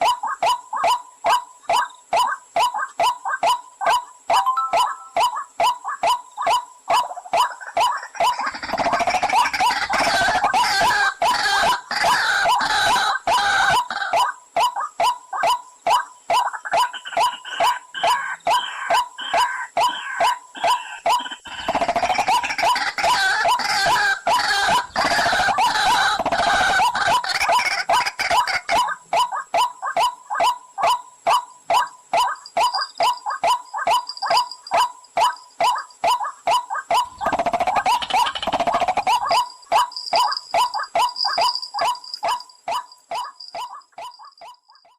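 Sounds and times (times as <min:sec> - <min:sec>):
rapid harsh bird chattering: 0:00.0 - 0:44.9
waterhen calls: 0:00.0 - 0:44.9.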